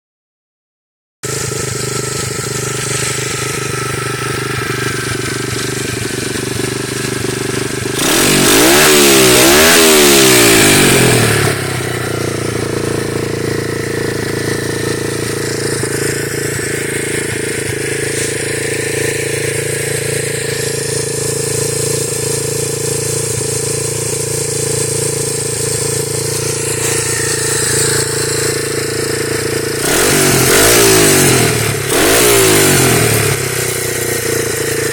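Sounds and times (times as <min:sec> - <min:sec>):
motorbike engine idling and revving: 0:01.2 - 0:34.9.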